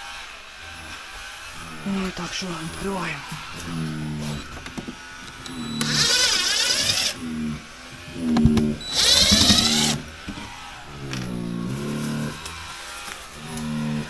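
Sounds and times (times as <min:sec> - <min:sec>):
power drill spinning: 0:00.0 - 0:14.0.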